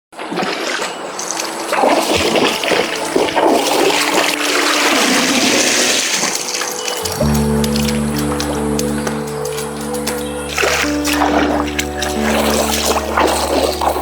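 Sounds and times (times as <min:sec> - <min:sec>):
water rushing and splashing: 0:00.2 - 0:14.0.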